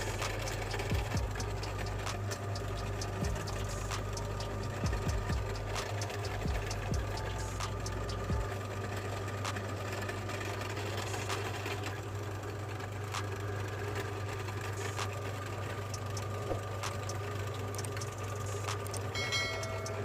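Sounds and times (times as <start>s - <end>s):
meat grinder motor humming: 0.0s - 20.0s.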